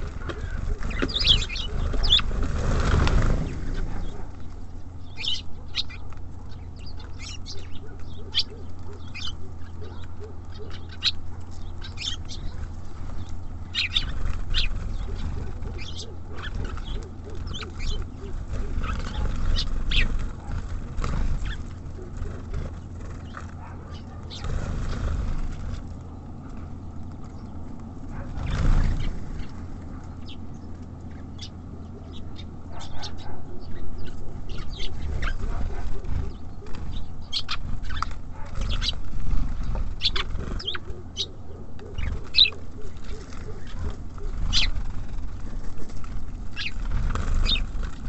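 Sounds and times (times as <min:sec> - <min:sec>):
small birds chirping: 0:00.0 - 0:48.0
steady low rumble: 0:00.0 - 0:48.0.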